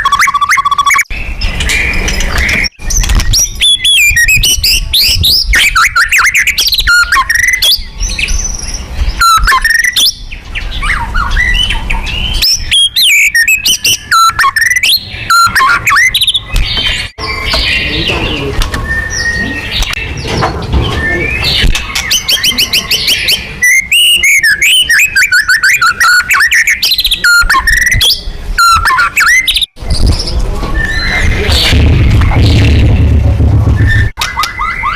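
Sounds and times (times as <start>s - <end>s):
bird singing whistles and trills: 0.0s - 31.7s, 33.8s - 34.9s.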